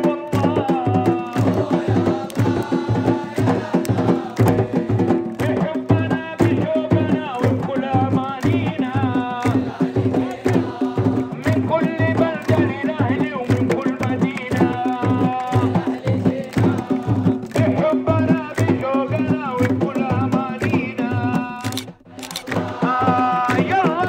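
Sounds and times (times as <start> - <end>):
frame drums beating: 0.0 - 24.0
hand-clapping: 0.0 - 24.0
person singing through a megaphone: 0.0 - 24.0.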